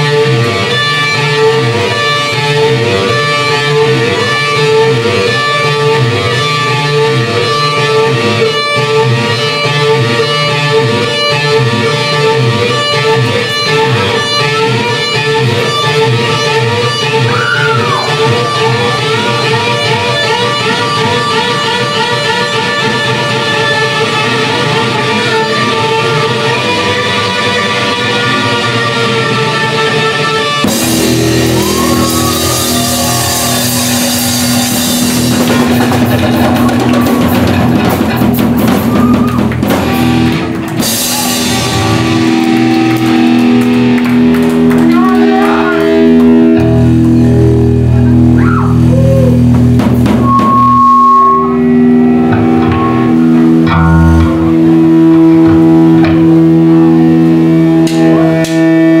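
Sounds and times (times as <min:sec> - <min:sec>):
bass guitar: 0:00.0 - 0:59.0
drum kit: 0:00.0 - 0:59.0
electric guitar lead: 0:00.0 - 0:59.0.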